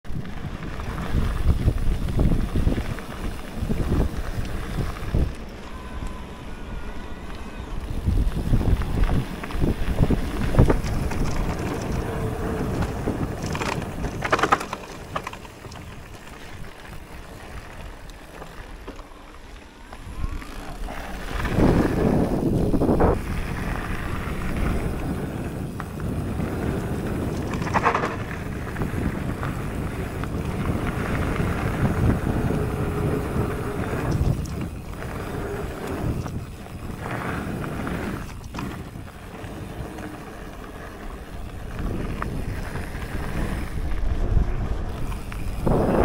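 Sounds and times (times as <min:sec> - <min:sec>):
bike tyres rumbling over gravel: 0:00.0 - 0:46.0
bike knocking and rattling: 0:00.1 - 0:05.8, 0:06.4 - 0:46.0
wind buffeting microphone: 0:00.1 - 0:46.0.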